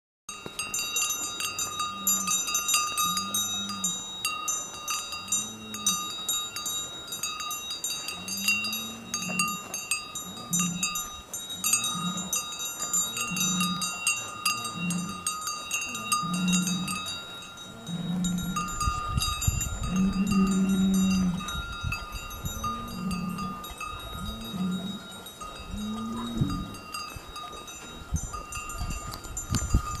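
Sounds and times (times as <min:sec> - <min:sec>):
cowbells clanking: 0:00.3 - 0:30.0.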